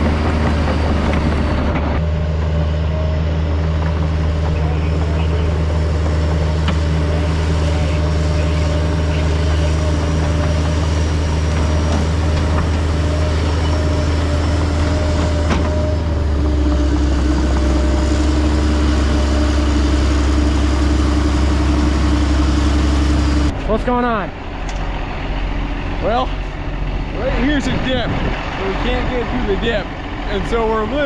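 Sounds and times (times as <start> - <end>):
heavy diesel engines under load: 0.0 - 31.0.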